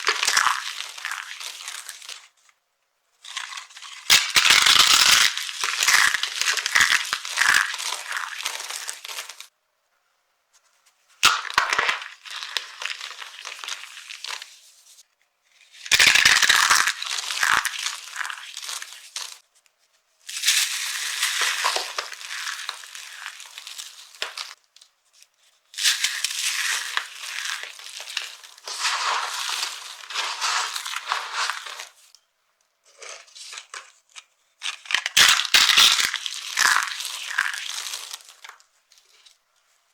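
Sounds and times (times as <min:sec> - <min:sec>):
dry soap crushed by hand: 0:00.0 - 0:02.4, 0:03.3 - 0:09.5, 0:11.2 - 0:14.5, 0:15.8 - 0:19.4, 0:20.3 - 0:24.6, 0:25.8 - 0:32.0, 0:32.9 - 0:39.3.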